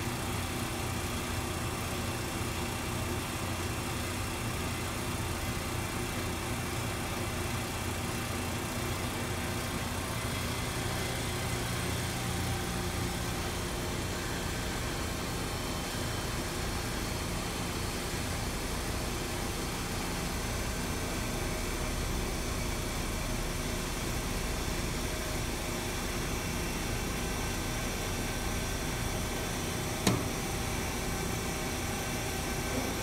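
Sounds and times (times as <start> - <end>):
machine low mechanical hum: 0.0 - 33.0.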